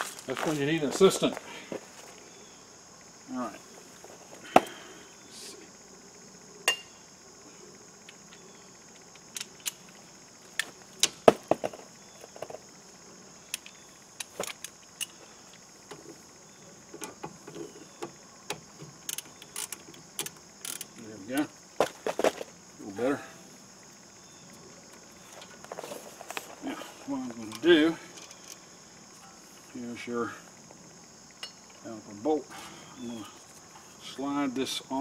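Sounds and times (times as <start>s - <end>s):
high insect chirring: 0.0s - 35.0s.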